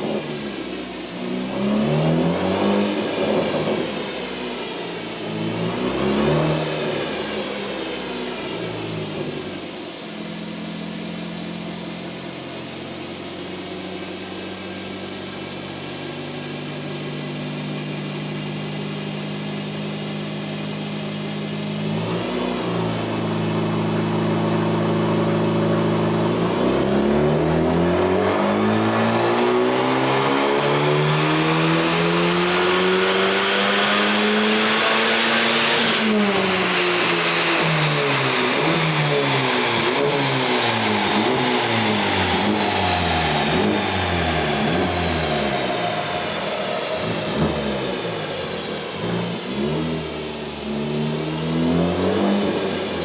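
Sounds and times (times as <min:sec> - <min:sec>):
car engine revving: 0:00.0 - 0:09.6, 0:17.8 - 0:53.0
high turbo whine: 0:00.0 - 0:53.0.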